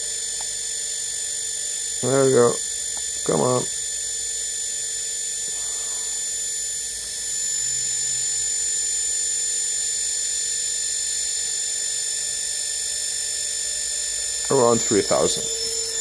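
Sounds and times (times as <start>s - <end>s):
washing machine motor whining: 0.0s - 0.9s, 1.6s - 16.0s.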